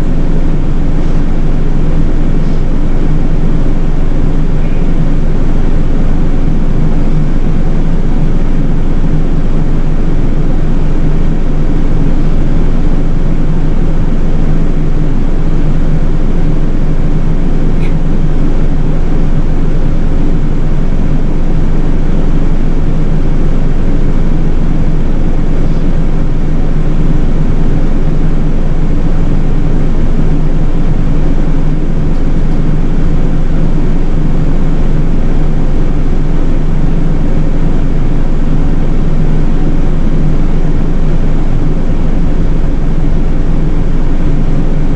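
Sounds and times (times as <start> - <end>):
bus engine drone: 0.0 - 44.9.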